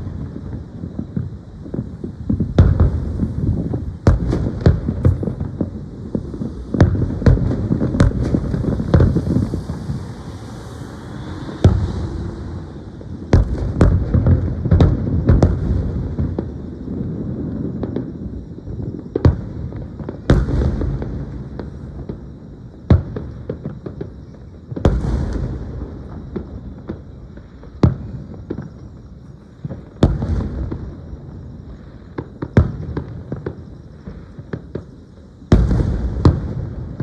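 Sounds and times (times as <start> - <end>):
fireworks bangs: 0.0 - 37.0
hissing crackle: 0.0 - 37.0.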